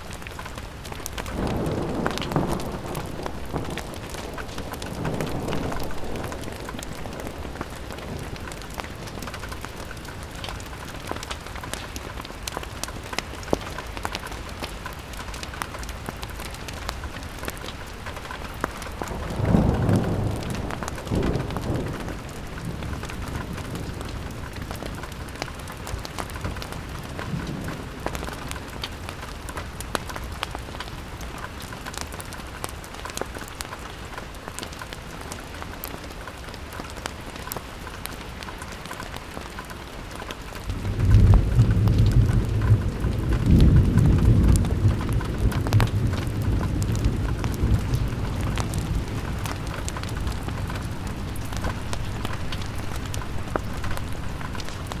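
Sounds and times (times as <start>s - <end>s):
low rumbling wind or thunder: 0.0s - 14.0s, 15.4s - 32.1s, 40.6s - 55.0s
rain pattering on a window: 0.0s - 55.0s.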